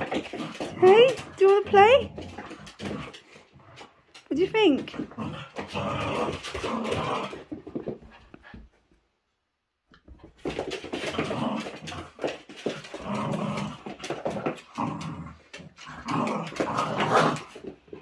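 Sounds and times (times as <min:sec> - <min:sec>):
small dogs play-growling: 0:00.0 - 0:08.7, 0:10.0 - 0:18.0.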